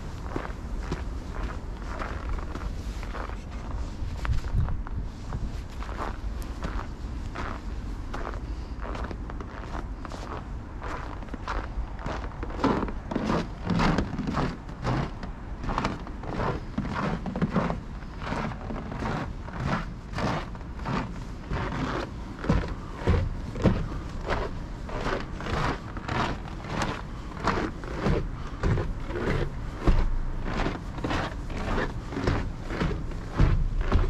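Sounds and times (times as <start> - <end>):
footsteps on wooden stairs: 0.2 - 6.9, 10.2 - 34.0.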